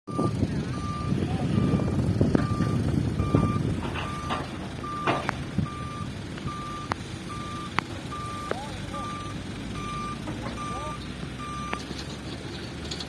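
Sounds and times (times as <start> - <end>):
reversing alarm beeping: 0.1 - 11.9
diesel engine rumble: 0.1 - 13.0.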